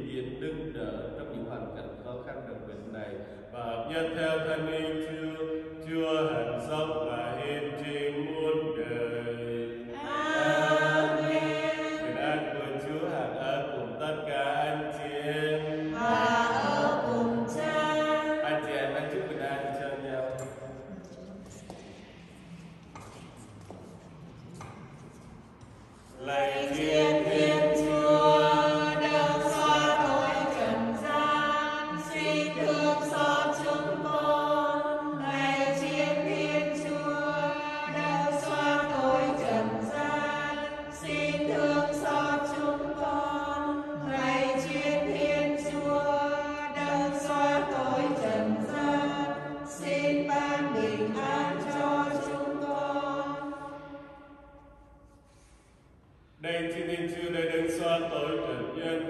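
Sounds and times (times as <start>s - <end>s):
voices singing a hymn: 0.0s - 55.6s, 56.4s - 59.0s.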